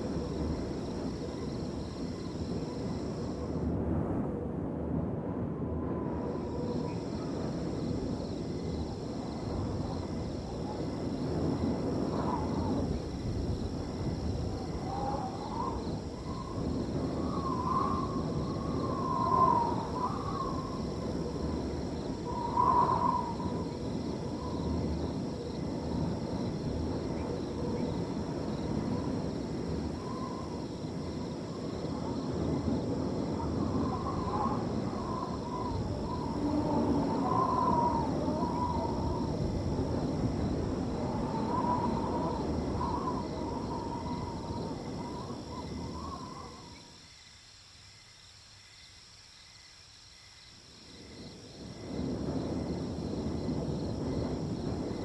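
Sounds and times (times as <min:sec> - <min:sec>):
crickets trilling: 0:00.0 - 0:04.2, 0:05.4 - 0:55.0
wind blowing: 0:00.0 - 0:47.0, 0:50.9 - 0:55.0.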